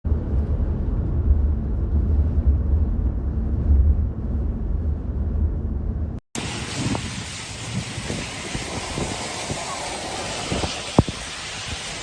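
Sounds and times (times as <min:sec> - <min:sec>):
deep unsteady rumble: 0:00.0 - 0:11.9.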